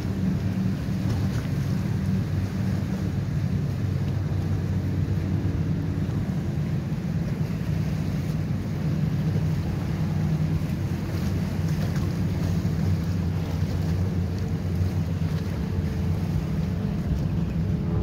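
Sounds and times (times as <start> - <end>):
choppy water: 0.0 - 18.0
motorboat engines droning: 0.0 - 18.0
wind on microphone: 0.0 - 18.0.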